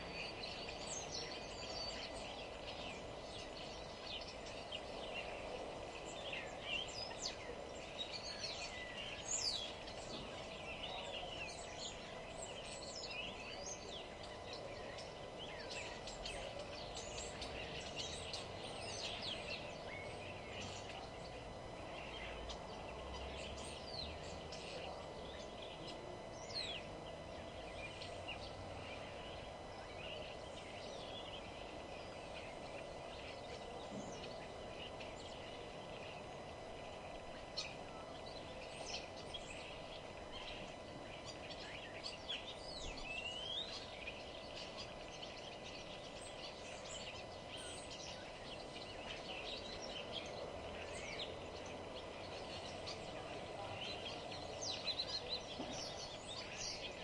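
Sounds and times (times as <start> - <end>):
birds chirping: 0.0 - 57.0
environmental background noise: 0.0 - 57.0.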